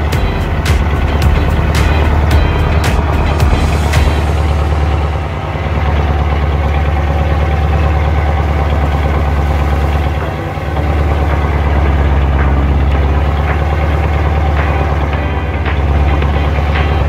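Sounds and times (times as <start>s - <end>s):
boat engine droning: 0.0s - 17.0s
rushing water: 0.0s - 17.0s
wind: 0.0s - 17.0s.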